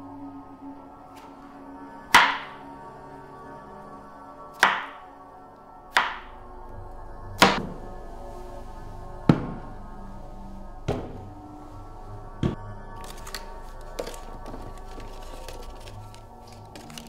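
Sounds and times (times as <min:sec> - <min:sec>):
low music drone: 0:00.0 - 0:17.0.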